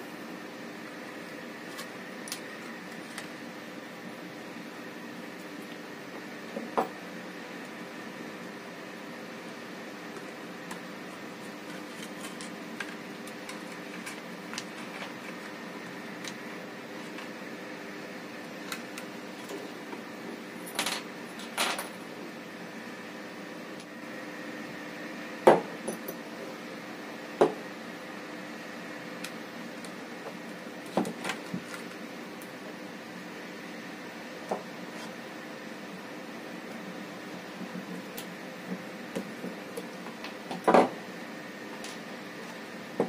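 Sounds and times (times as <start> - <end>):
background hum: 0.0 - 43.0.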